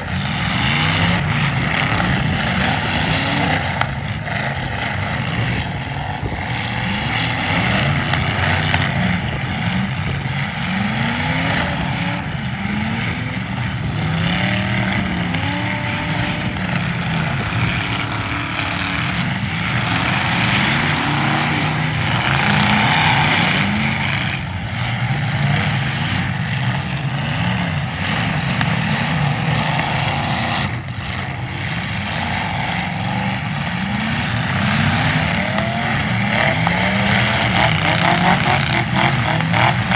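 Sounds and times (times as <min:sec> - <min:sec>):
car engines revving: 0:00.0 - 0:39.9
steady rush of noise: 0:00.0 - 0:39.9.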